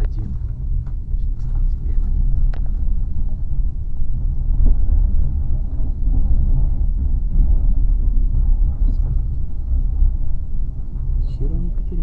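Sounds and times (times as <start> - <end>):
train rumbling inside carriage: 0.0 - 12.0.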